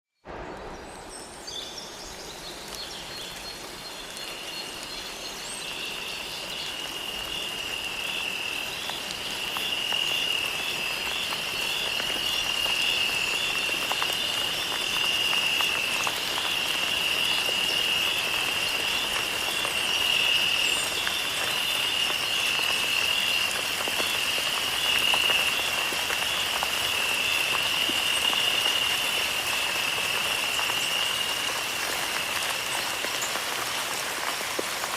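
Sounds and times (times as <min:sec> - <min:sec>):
steady hiss: 0:00.3 - 0:34.9.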